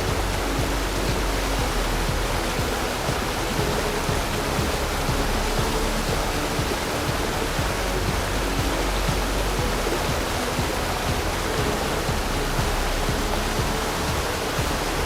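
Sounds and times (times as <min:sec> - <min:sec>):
background music: 0:00.0 - 0:15.0
waterfall roaring: 0:00.0 - 0:15.0.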